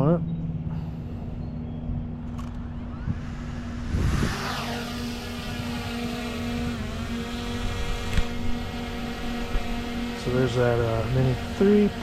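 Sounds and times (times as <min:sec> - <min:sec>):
drone propeller whine: 0:00.0 - 0:12.0.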